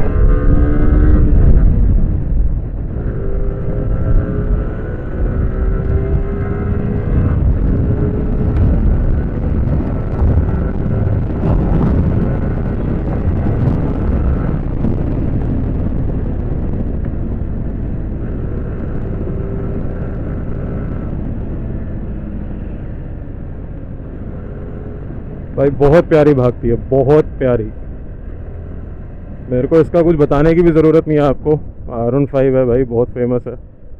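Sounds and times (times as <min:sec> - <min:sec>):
motorcycle engine hum: 0:00.0 - 0:33.9
wind rush on microphone: 0:00.0 - 0:33.9.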